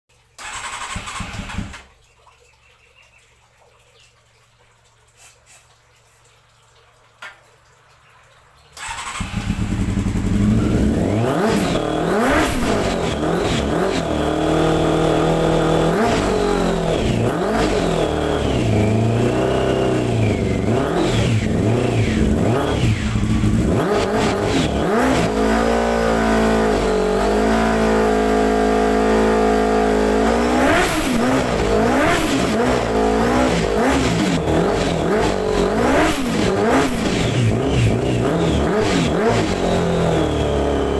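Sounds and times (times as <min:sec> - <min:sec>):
motorcycle engine revving: 0:00.4 - 0:01.9, 0:08.8 - 0:40.9.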